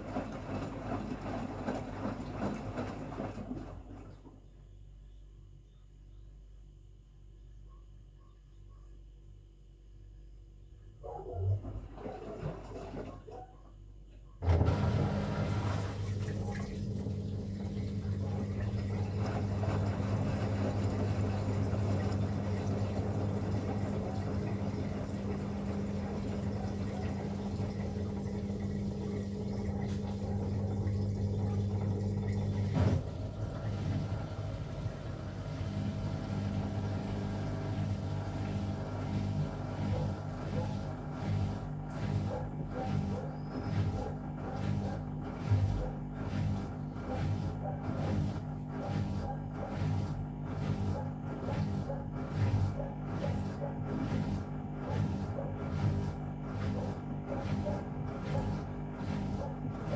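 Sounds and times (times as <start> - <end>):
washing machine humming: 0.0 - 59.9.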